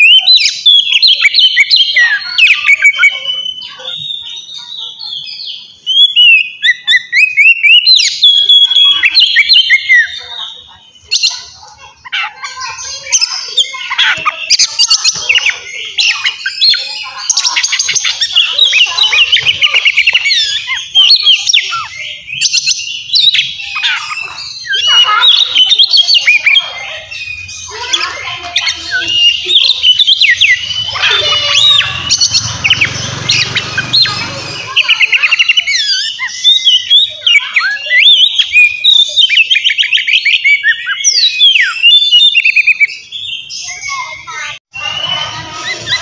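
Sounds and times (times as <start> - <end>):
bird singing whistles and trills: 0.0 - 46.0.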